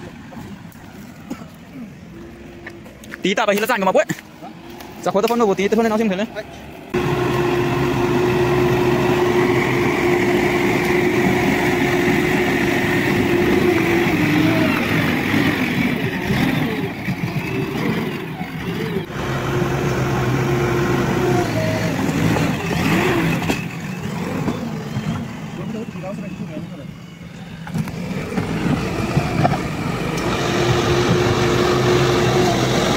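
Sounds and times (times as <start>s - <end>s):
diesel engine under load: 0.0s - 32.9s.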